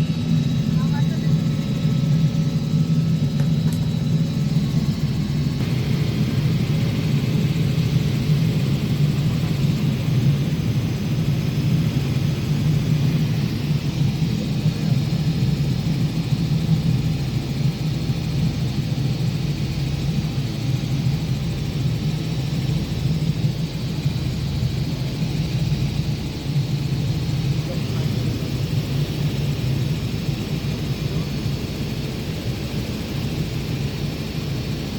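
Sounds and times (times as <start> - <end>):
helicopter engine and rotors drone: 0.0 - 34.9.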